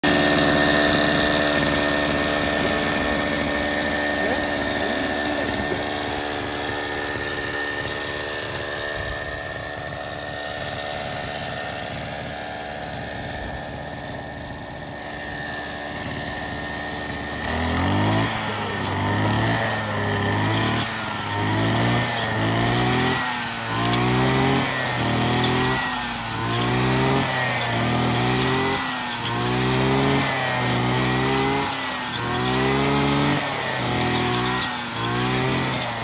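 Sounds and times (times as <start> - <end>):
brush cutter engine running: 0.0 - 36.0.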